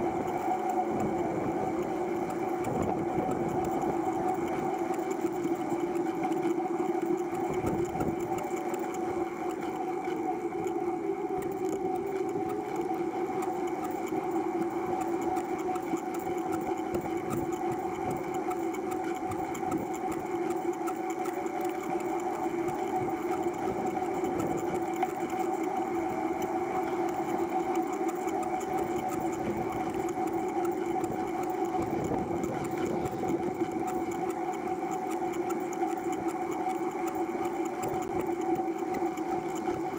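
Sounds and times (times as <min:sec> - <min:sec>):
tricycle rolling hum: 0:00.0 - 0:39.9.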